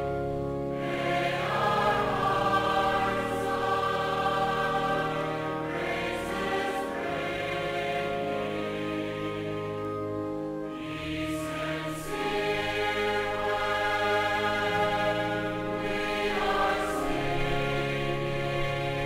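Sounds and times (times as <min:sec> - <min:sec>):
mixed choir singing held chords: 0:00.0 - 0:19.0.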